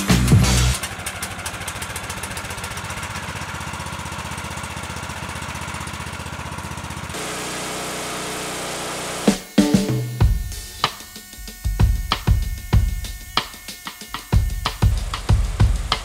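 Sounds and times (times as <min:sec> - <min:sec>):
small gas engine running: 0:00.0 - 0:16.0.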